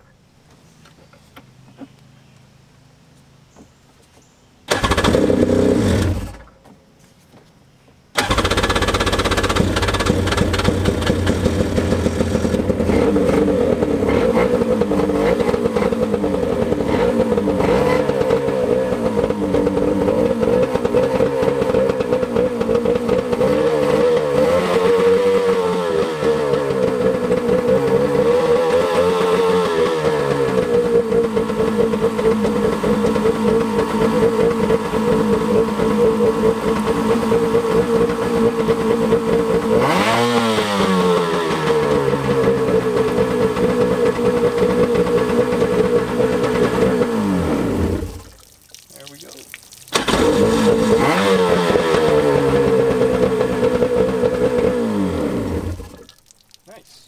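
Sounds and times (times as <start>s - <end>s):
two-stroke engine running: 4.7s - 6.5s, 8.2s - 48.3s, 50.0s - 56.0s.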